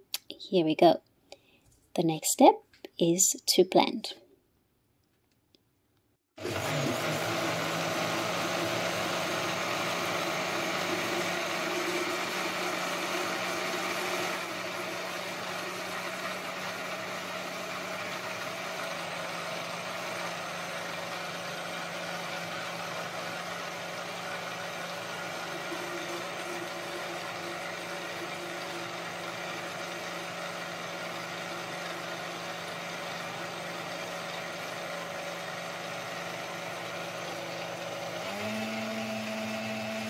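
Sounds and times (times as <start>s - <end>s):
blender motor running: 6.4s - 40.0s.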